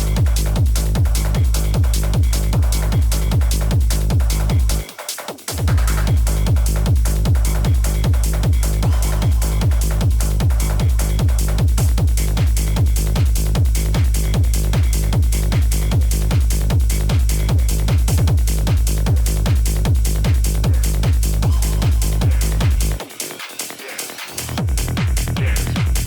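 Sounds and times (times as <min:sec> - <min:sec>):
heavy kick drum: 0:00.0 - 0:23.3, 0:24.4 - 0:26.0
hard techno music: 0:00.0 - 0:26.0.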